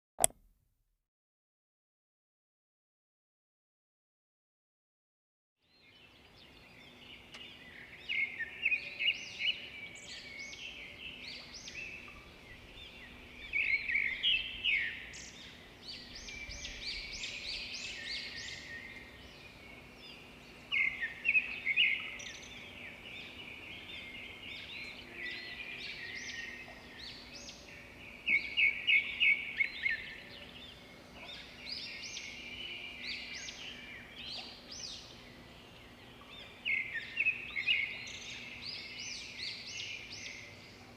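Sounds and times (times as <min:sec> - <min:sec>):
songbirds chirping: 0:05.6 - 0:40.9.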